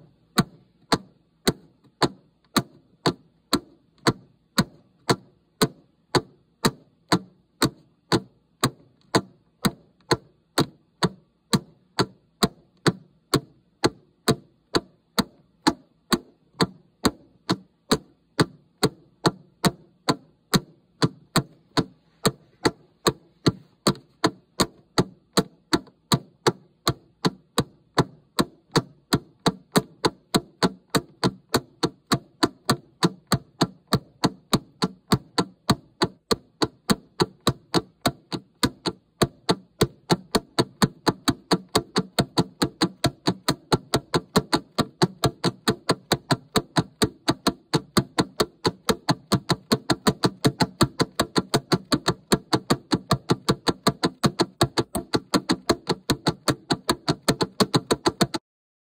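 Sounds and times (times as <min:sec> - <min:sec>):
timer ticking: 0:00.4 - 0:58.4.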